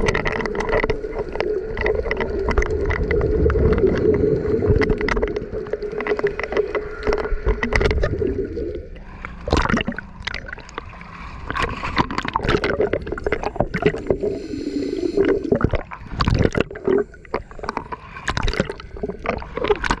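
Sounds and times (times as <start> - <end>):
steady hum: 0.0 - 18.2
water bubbling and gurgling: 0.0 - 20.0.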